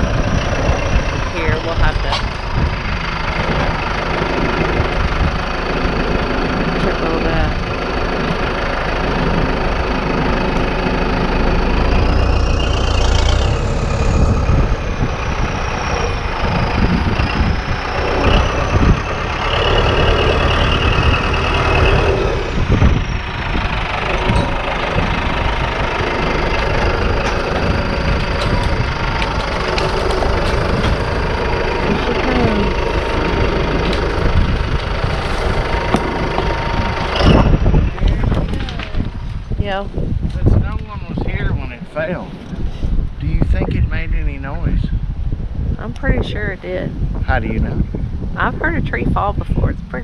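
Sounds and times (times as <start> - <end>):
engine running: 0.0 - 50.0
high whine: 0.0 - 50.0.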